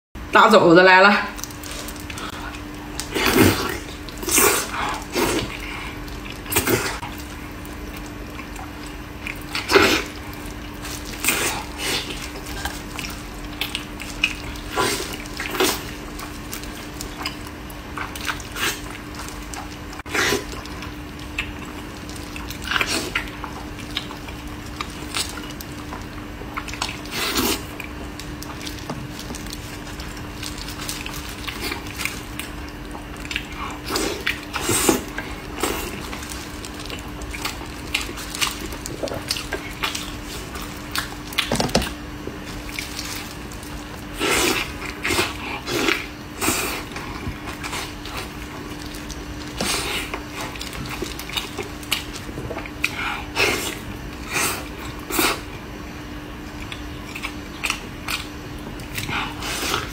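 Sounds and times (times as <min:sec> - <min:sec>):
steady low hum: 0:00.2 - 0:59.9
smacking bites and chewing: 0:01.4 - 0:59.9.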